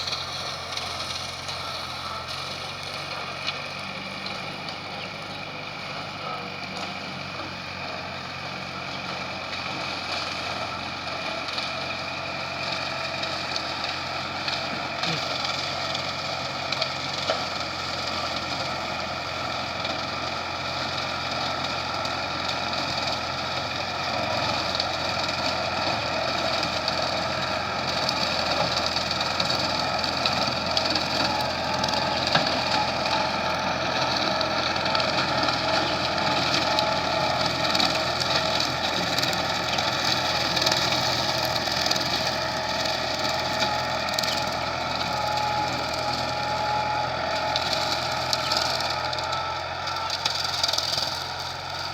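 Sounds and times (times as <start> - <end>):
rotary mower: 0.0 - 51.9
tractor diesel engine running: 0.0 - 51.9.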